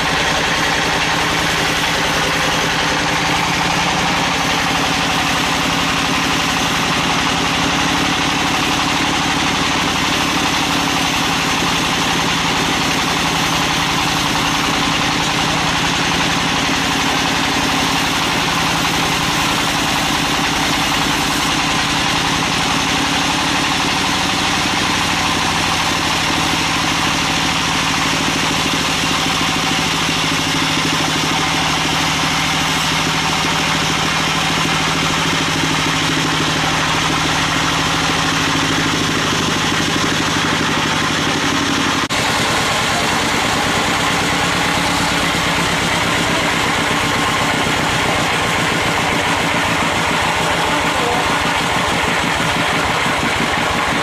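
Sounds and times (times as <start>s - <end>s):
band sawmill machine drone: 0.0s - 54.0s
saw hissing through wood: 0.0s - 54.0s.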